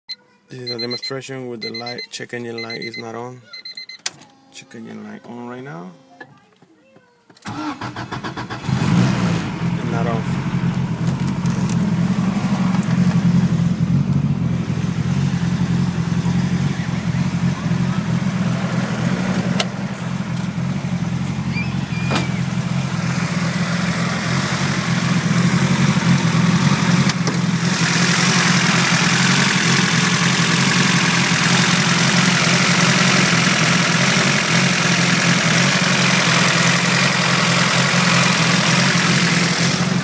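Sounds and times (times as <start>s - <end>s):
car engine idling: 7.4s - 40.0s.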